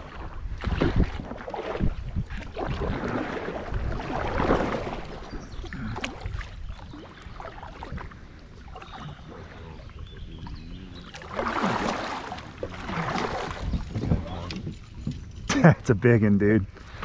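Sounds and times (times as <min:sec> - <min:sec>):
wind rumbling on microphone: 0:00.0 - 0:16.0
water splashing around boat: 0:00.0 - 0:17.0.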